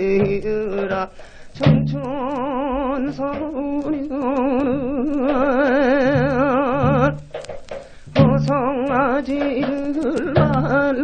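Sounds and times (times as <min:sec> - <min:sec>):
folk singing with vibrato: 0:00.0 - 0:11.0.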